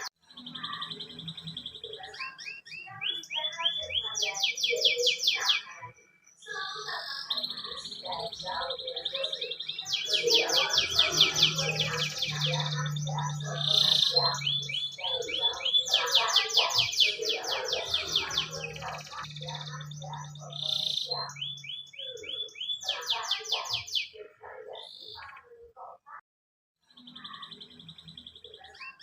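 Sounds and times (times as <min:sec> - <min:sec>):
canary singing trills: 0:00.0 - 0:26.2, 0:26.8 - 0:29.0.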